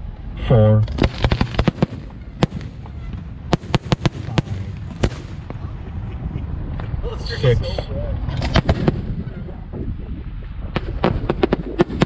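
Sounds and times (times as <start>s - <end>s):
low background rumble: 0.0s - 12.0s
fireworks crackling and banging: 0.8s - 12.0s.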